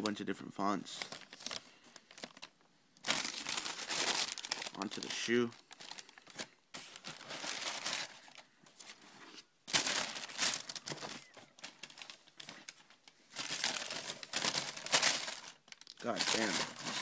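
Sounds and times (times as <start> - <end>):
tissue paper crinkling: 1.0 - 17.0.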